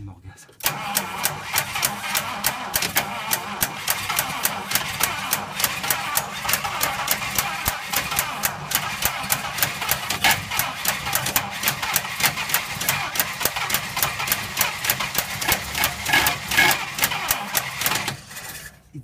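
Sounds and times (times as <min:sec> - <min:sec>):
engine running unevenly: 0:00.6 - 0:19.0.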